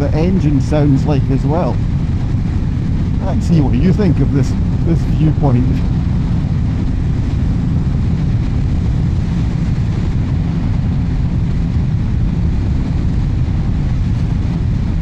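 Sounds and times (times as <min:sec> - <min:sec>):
motorcycle engine running: 0:00.0 - 0:15.0
wind noise: 0:00.0 - 0:15.0.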